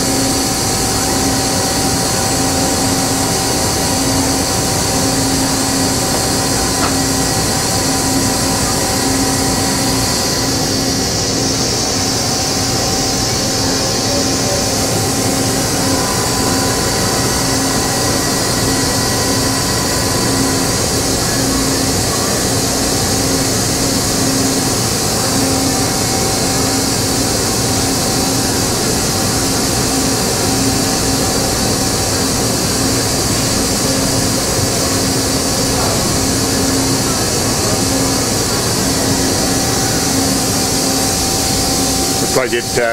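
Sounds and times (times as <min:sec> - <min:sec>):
machinery hum and hiss: 0:00.0 - 0:42.9.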